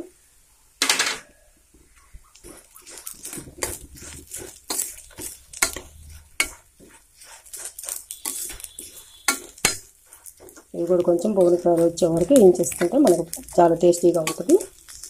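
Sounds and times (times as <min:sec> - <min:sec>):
spatula scraping a metal pan: 0:02.4 - 0:15.0.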